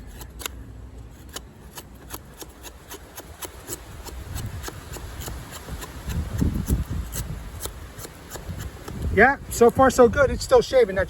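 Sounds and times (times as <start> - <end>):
blade scraping hair: 0.0 - 9.8.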